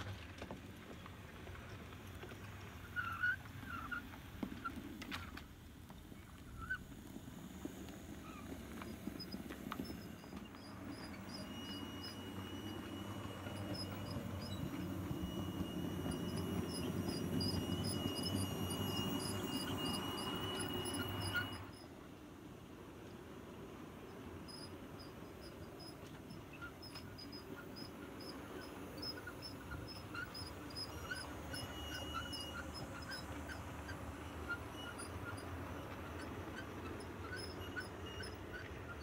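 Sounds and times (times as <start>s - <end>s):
wheels ticking over rail: 0.0s - 22.0s, 23.0s - 39.0s
model train motor whine: 2.3s - 22.2s, 22.8s - 39.0s.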